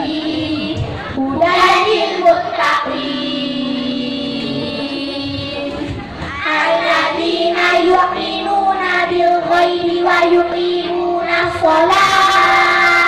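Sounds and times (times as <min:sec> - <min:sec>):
child singing over loudspeakers: 0:00.0 - 0:13.0.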